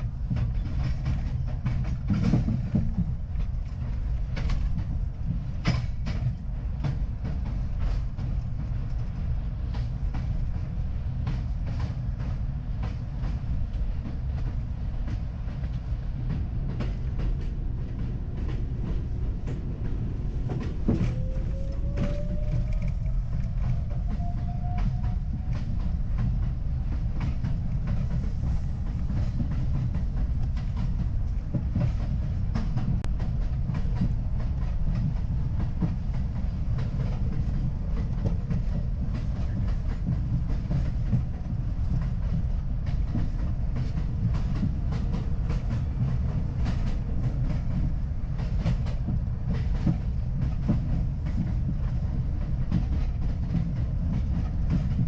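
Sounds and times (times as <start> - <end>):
subway train rumbling: 0.0 - 55.0
wheels clicking over rail joints: 0.0 - 55.0.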